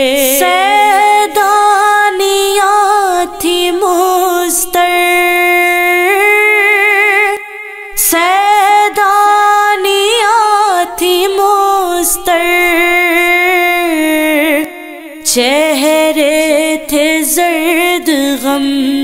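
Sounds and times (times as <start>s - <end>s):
woman singing a lament: 0.0s - 19.0s.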